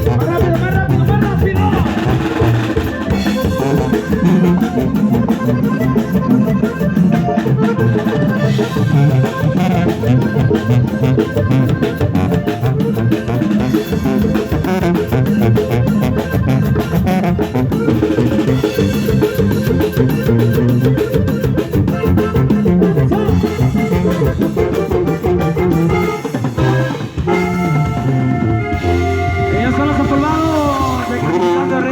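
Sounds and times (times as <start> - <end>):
live band playing cumbia: 0.0 - 31.9.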